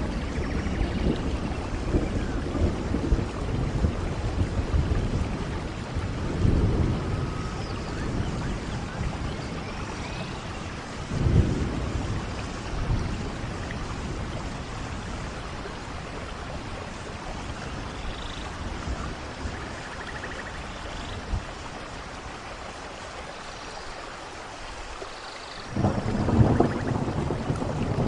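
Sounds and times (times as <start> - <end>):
rain falling in a forest: 0.0 - 28.0.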